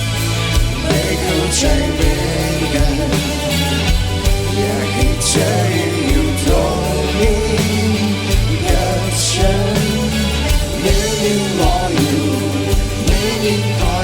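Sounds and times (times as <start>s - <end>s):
person singing: 0.7s - 14.0s.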